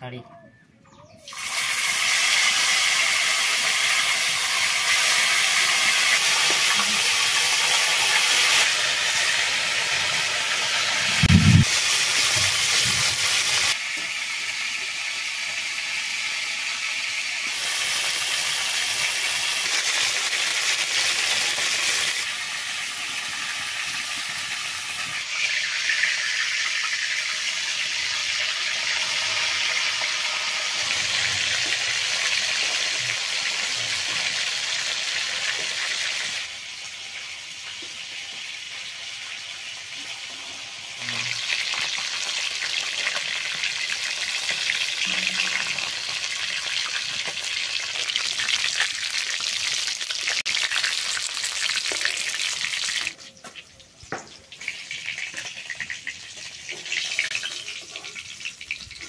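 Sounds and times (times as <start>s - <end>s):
fish sizzling in hot oil: 1.3s - 59.0s.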